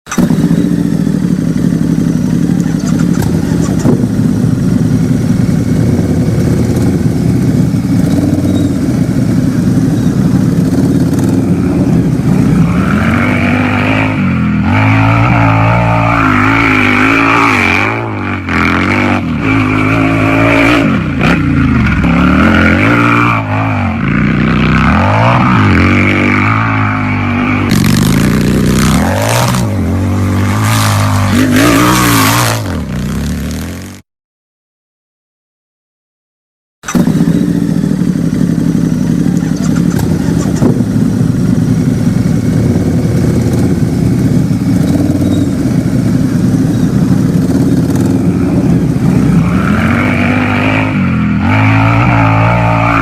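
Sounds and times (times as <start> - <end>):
motorcycle engine idling and revving: 0.0 - 34.0, 36.8 - 53.0.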